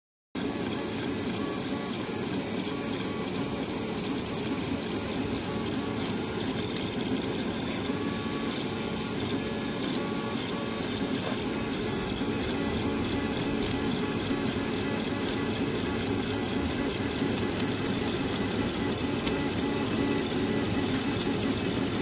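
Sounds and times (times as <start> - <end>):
cooling fan hum: 0.4 - 22.0
stepper motors whirring: 2.7 - 22.0.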